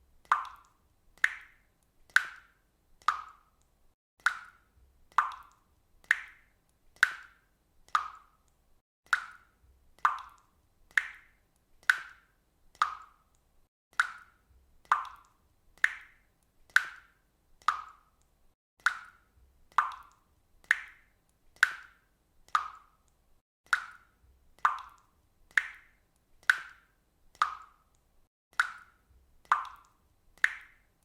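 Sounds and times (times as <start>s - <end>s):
water dripping: 0.1s - 31.0s.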